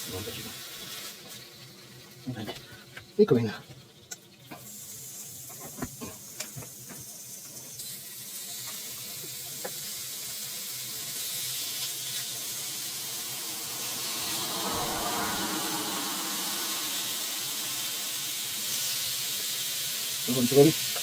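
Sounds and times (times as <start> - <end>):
chicken sizzling in frying oil: 0.0 - 21.0.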